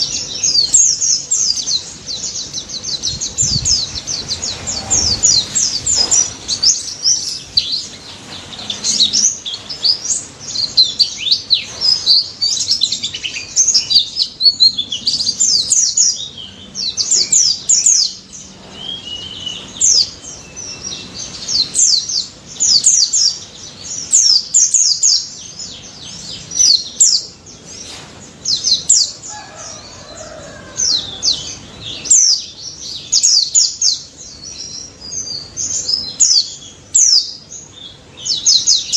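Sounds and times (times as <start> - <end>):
bird singing high sweeping chirps: 0.0 - 38.9.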